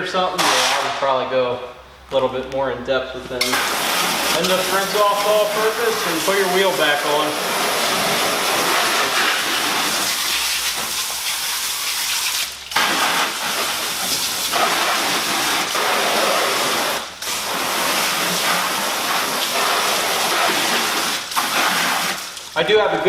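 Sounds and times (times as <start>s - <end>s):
pressure washer spraying: 3.4s - 22.6s.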